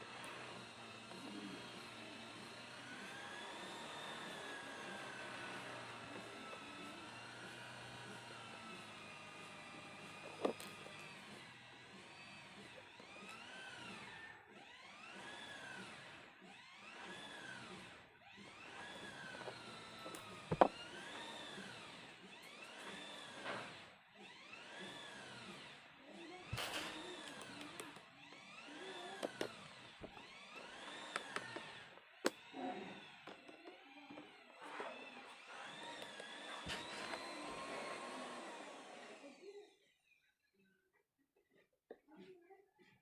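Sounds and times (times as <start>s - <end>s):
small motor whining: 0.0s - 39.8s.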